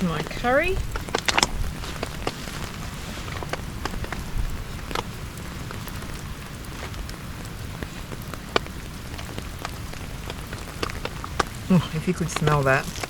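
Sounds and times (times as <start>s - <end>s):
raindrops striking close by: 0.0s - 13.0s
steady rain: 0.0s - 13.0s.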